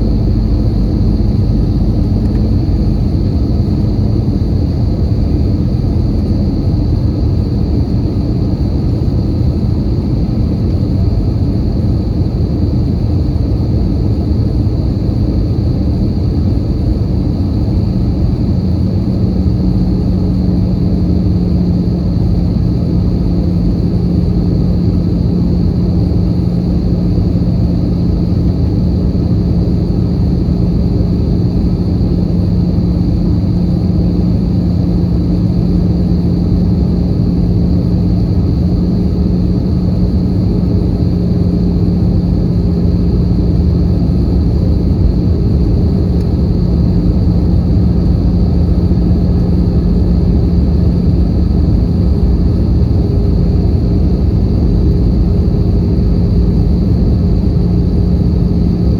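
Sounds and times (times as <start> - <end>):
airplane cabin engine drone: 0.0 - 58.9.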